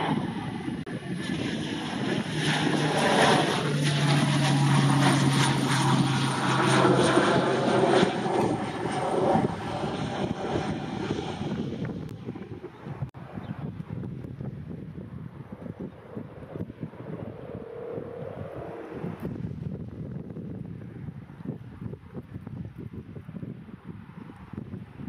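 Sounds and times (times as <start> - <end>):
turboprop plane passing overhead: 0.0 - 25.0.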